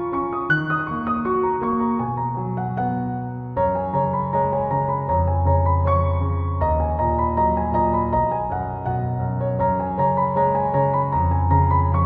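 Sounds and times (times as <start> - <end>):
keyboard melody: 0.0 - 12.0.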